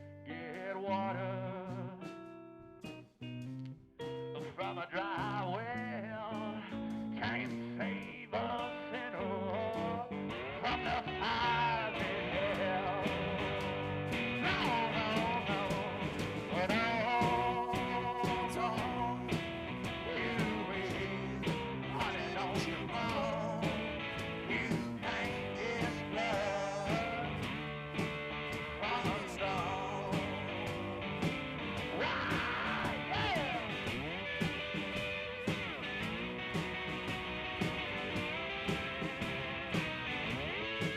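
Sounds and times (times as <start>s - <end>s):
blues song with guitar and vocals: 0.0s - 40.9s.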